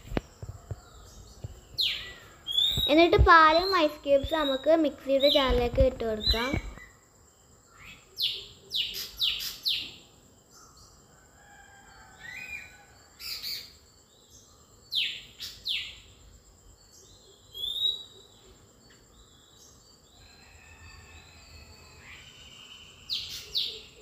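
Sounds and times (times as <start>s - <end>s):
small birds chirping: 0.0s - 11.0s, 12.2s - 24.0s.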